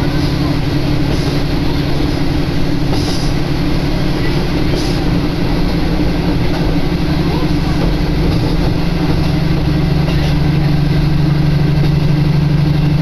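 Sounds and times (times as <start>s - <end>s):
railcar engine drone: 0.0s - 13.0s
rumbling rail noise: 0.0s - 13.0s.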